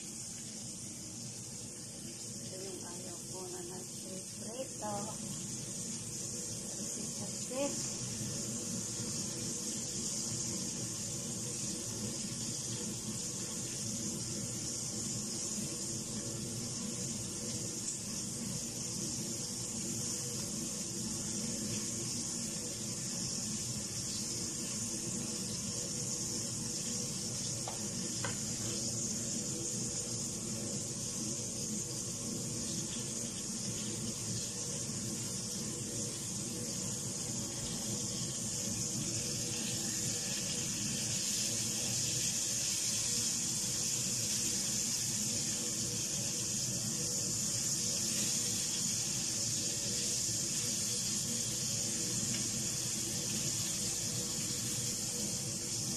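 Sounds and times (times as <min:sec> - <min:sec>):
seafood sizzling in oil: 0:00.0 - 0:55.9.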